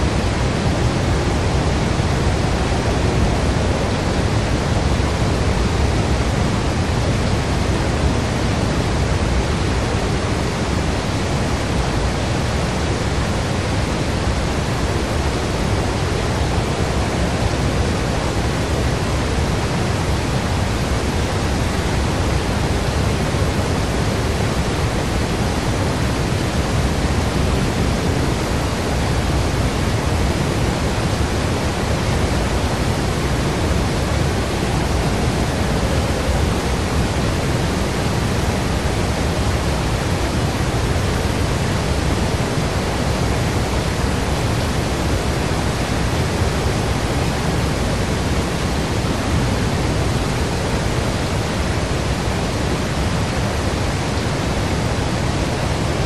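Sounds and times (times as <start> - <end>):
steady low rushing noise: 0.0 - 50.0.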